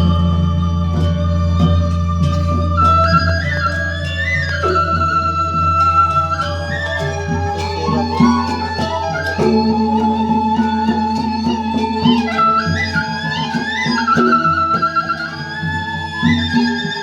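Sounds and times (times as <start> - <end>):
flute-like melody: 0.0 - 17.0.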